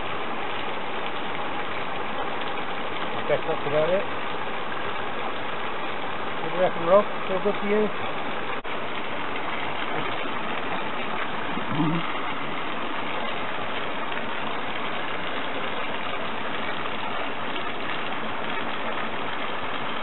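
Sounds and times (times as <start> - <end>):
water jet hissing and splashing: 0.0 - 20.0.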